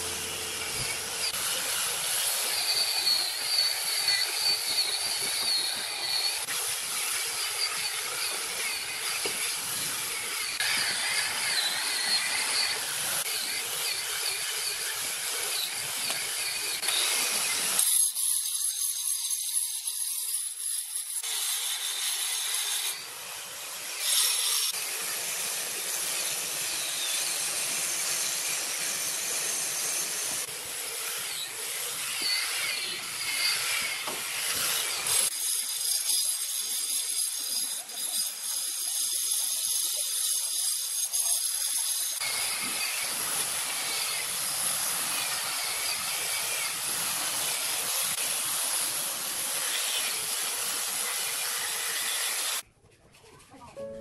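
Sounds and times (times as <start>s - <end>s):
angle grinder grinding stone: 0.0s - 23.2s, 23.9s - 52.6s.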